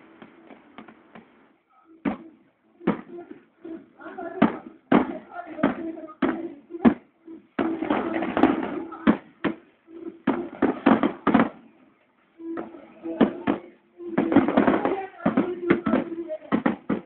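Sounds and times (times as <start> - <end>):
fireworks bangs: 0.0 - 11.8, 12.6 - 17.0.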